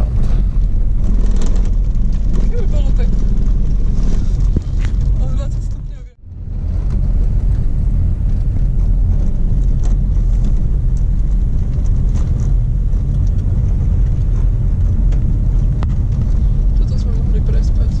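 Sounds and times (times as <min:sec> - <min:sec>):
tyres and engine rumbling: 0:00.0 - 0:18.0.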